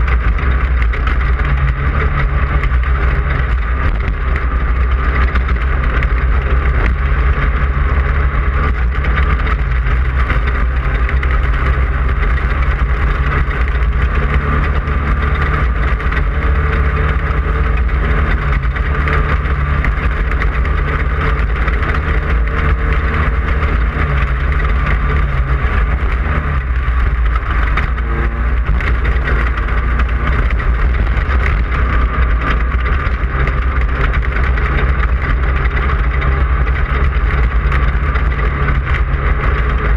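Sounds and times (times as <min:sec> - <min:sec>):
constant rushing noise: 0:00.0 - 0:39.9
race car engine running hard: 0:00.0 - 0:39.9.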